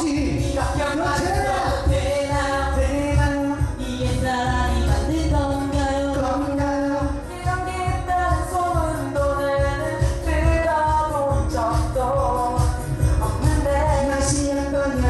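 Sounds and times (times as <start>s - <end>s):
pop music with singing: 0.0s - 15.0s
pulsing bass line: 0.0s - 15.0s.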